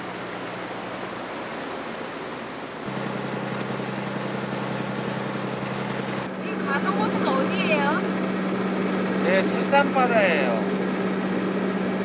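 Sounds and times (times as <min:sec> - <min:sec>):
boat engine humming: 0:00.0 - 0:12.0
water rushing along hull: 0:00.0 - 0:12.0.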